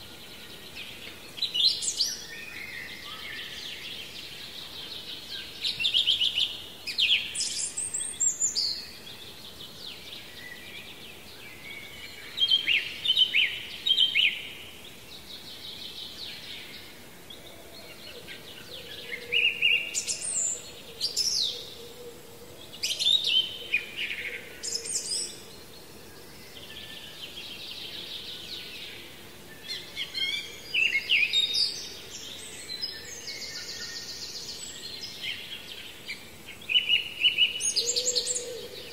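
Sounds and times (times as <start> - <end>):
faint steady hiss: 0.0 - 38.9
songbirds singing: 0.0 - 38.9.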